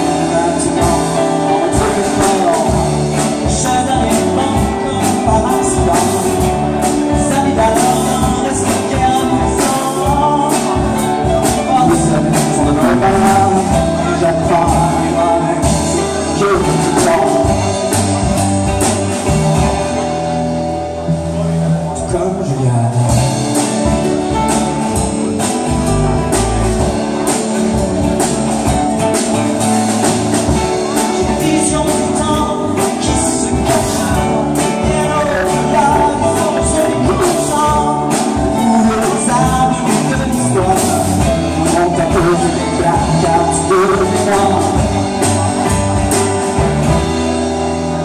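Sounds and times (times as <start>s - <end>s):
man singing: 0.0s - 20.2s, 20.9s - 48.0s
bass guitar: 0.0s - 48.0s
drum kit: 0.0s - 48.0s
keyboard: 0.0s - 48.0s
strummed acoustic-electric guitar: 0.0s - 48.0s.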